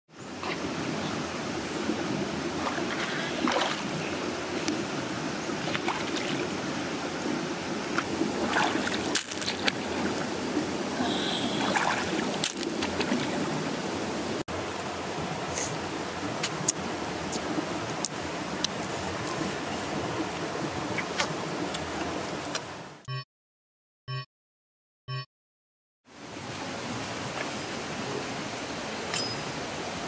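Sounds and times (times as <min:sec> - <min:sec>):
stream water running: 0:00.1 - 0:23.0, 0:26.1 - 0:30.0.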